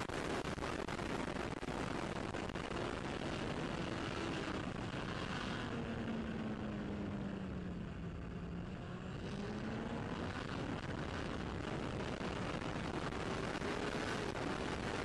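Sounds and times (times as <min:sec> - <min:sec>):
racing motorcycle engine: 0:02.2 - 0:15.0.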